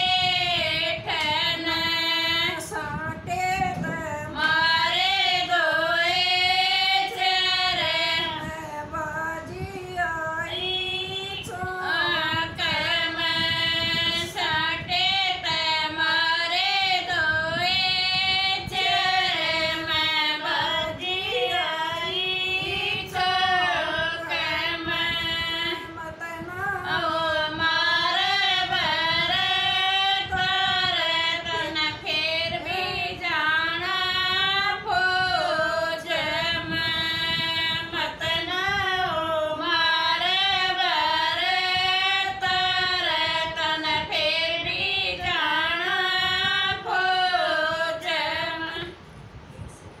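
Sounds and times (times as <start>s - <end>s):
women singing folk song: 0.0s - 49.0s.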